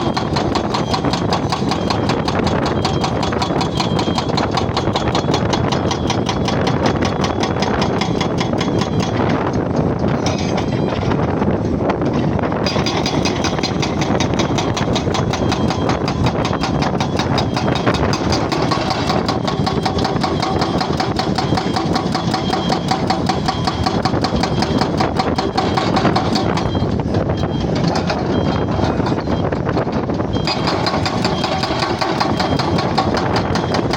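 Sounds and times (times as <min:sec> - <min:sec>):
jackhammer hammering: 0:00.0 - 0:09.4, 0:12.6 - 0:26.9, 0:30.4 - 0:33.9.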